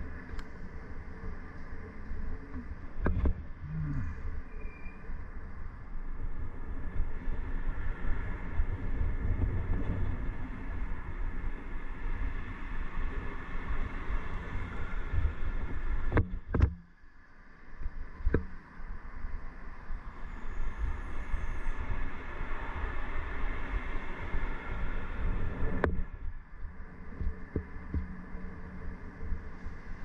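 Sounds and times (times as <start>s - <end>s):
traffic: 0.0s - 30.0s
wind and road noise: 0.0s - 30.0s.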